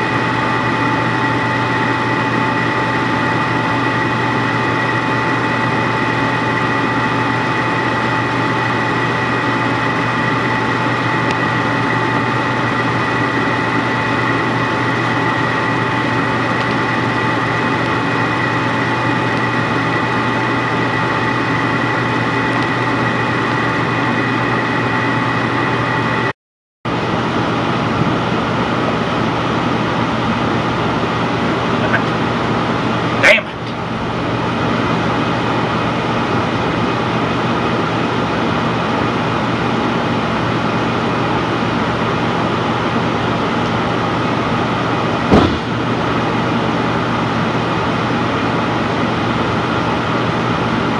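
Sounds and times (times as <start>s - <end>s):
furnace burner and blower hum: 0.0s - 26.3s, 26.9s - 50.9s.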